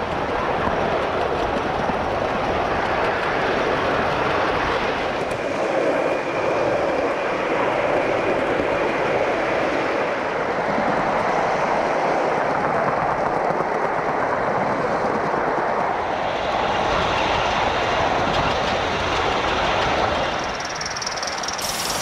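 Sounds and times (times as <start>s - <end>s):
model train wheels on rails: 0.0s - 22.0s.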